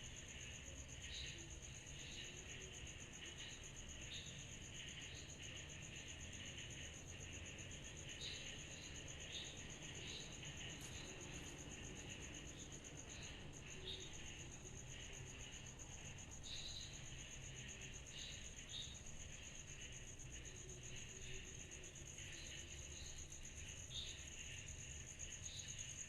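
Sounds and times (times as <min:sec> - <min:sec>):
dense insect buzz: 0:00.0 - 0:26.0
insects trilling: 0:00.0 - 0:26.0.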